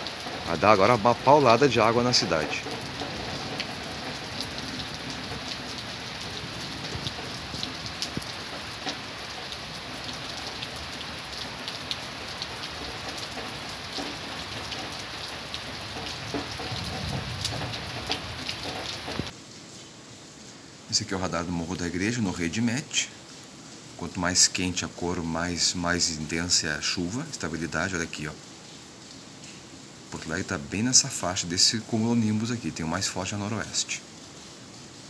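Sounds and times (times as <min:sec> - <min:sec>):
rain pouring: 0:00.0 - 0:35.0
raindrops ticking on surfaces: 0:00.0 - 0:35.0.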